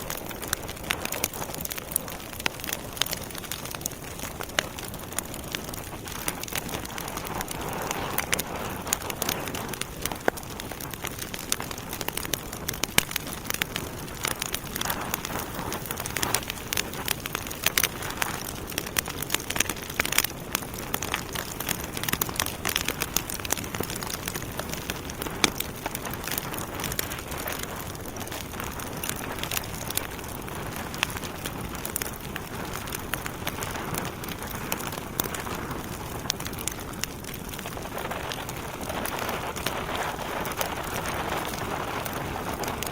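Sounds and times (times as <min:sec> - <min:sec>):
fire hissing softly: 0:00.0 - 0:42.9
logs crackling and popping: 0:00.0 - 0:42.9.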